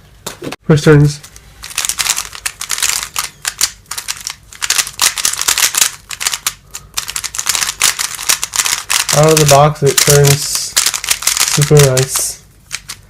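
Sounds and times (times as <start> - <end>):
plastic puzzle cube clicking: 1.3 - 13.0.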